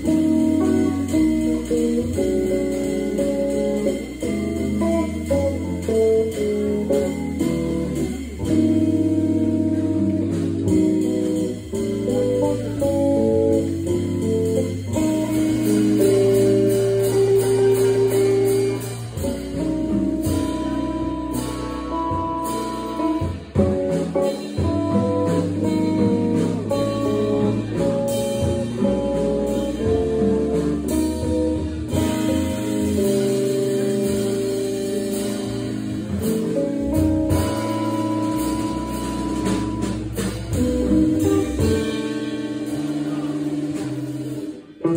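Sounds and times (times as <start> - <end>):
drum kit: 0.0 - 44.9
guitar: 0.0 - 44.9.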